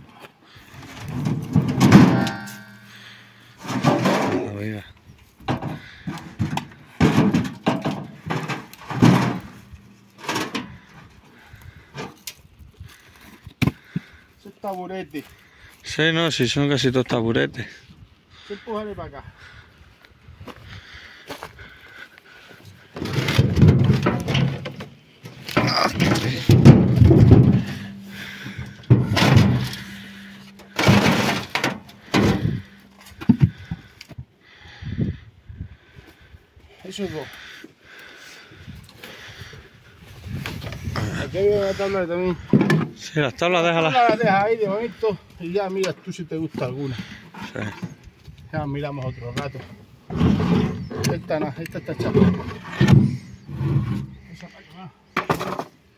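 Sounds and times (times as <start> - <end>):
wooden logs knocking and scraping: 0.0 - 16.9, 20.4 - 55.9.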